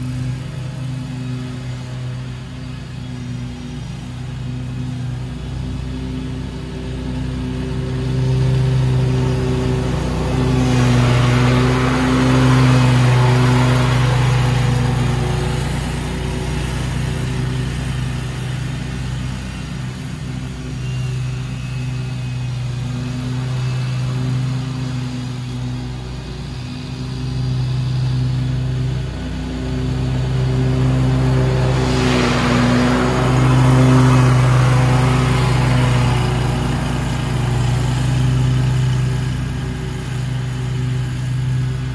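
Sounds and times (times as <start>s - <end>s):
lawn mower engine hum: 0.0s - 41.9s
mower blades cutting grass: 0.0s - 41.9s.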